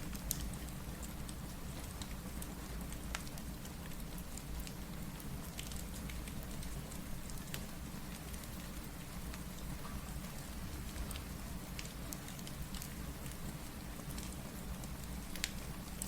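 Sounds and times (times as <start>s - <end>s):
steady rain: 0.0s - 16.0s
wood fire crackling: 0.0s - 16.0s.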